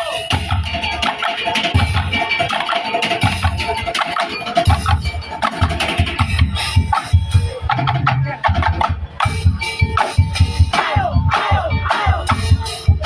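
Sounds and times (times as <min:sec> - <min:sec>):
deep bass drum beats: 0:00.0 - 0:02.6, 0:03.2 - 0:13.0
wooden slit drums beating: 0:00.0 - 0:13.0.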